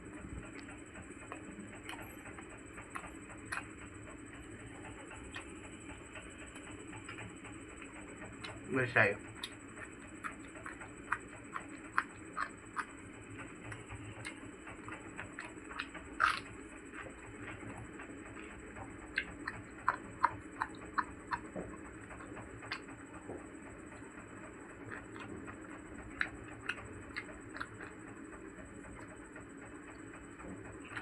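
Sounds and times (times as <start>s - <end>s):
chewing clicks and mouth smacks: 0.4s - 8.7s, 9.3s - 31.0s.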